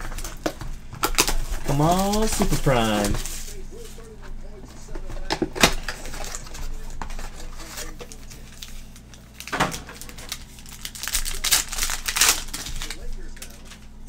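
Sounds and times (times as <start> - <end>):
foil wrapper crinkling: 0.0 - 14.0.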